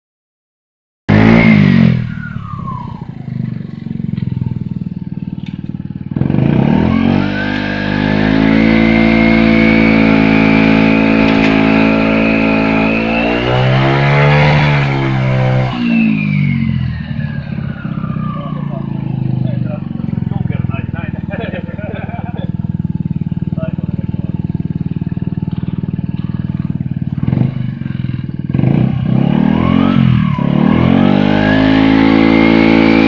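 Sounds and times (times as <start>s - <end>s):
engine revving: 1.1s - 33.0s
engine whine: 1.1s - 33.0s
vehicle engine starting: 1.1s - 33.0s
engine idling: 2.0s - 15.2s, 15.8s - 29.2s.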